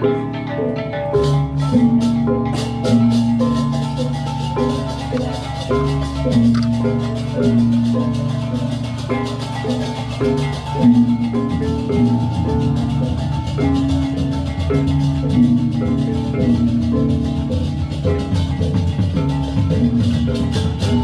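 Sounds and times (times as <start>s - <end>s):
bronze metallophones ringing: 0.0s - 21.0s
drums: 0.0s - 21.0s.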